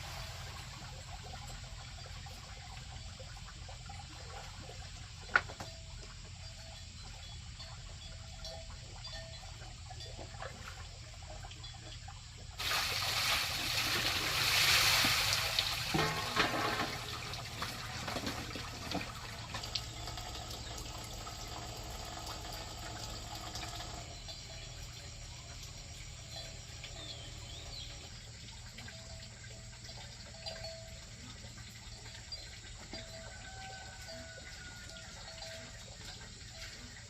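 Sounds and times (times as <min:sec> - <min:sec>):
water pouring and splashing: 0:00.0 - 0:06.9, 0:08.4 - 0:37.0.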